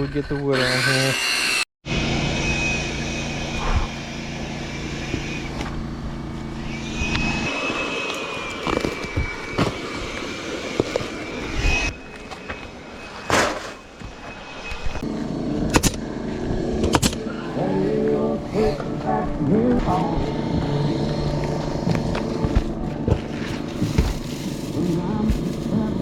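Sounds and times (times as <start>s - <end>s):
motor humming: 0.8s - 26.0s.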